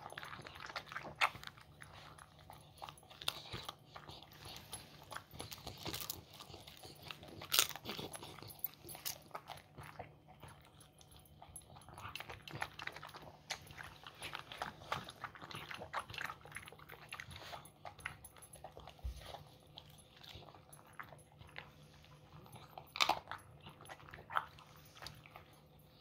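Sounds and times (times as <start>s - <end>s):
dog chewing from metal bowl: 0.0s - 26.0s.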